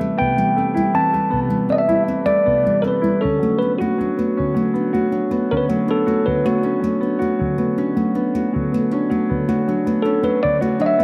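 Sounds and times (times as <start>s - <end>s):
keyboard melody: 0.0s - 11.0s
steady ticking beat: 0.0s - 11.0s.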